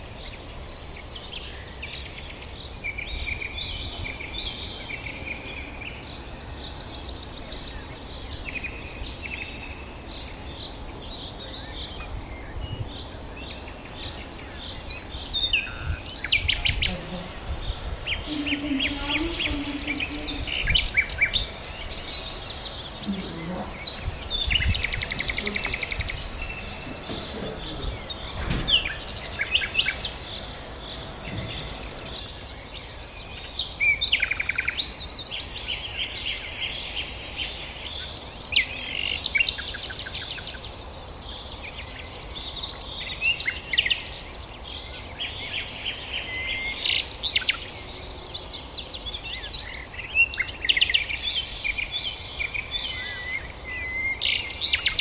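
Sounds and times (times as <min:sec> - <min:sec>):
background hiss: 0:00.0 - 0:55.0
birds chirping and singing: 0:00.0 - 0:55.0.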